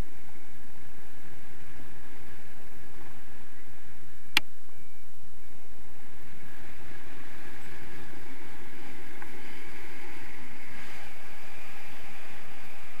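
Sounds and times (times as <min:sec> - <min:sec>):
rumbling wind noise: 0:00.0 - 0:13.0.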